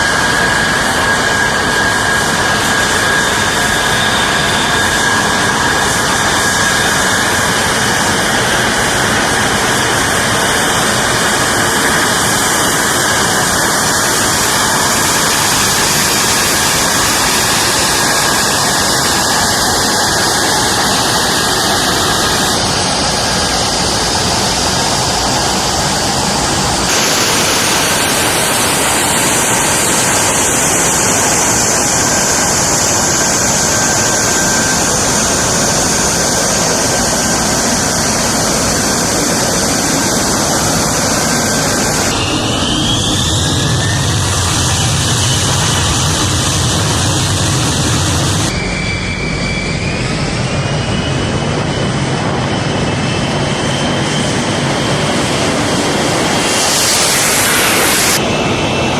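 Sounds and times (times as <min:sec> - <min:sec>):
high engine whine: 0:00.0 - 0:58.9
jet engine rushing: 0:00.0 - 0:58.9.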